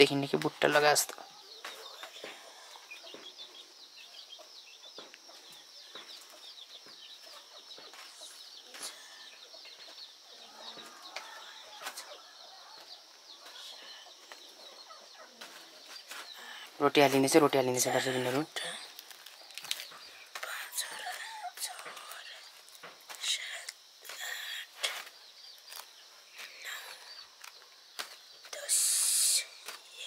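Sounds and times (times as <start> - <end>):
faint chickens chirping: 0.0 - 30.0.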